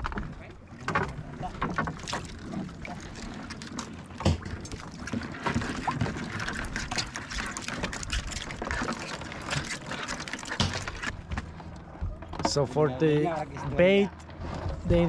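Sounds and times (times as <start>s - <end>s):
water sloshing and trickling: 0.0s - 15.0s.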